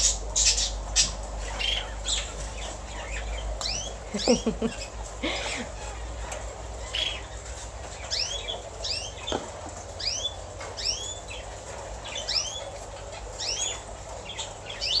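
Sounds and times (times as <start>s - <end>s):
cage birds chirping: 0.0s - 15.0s.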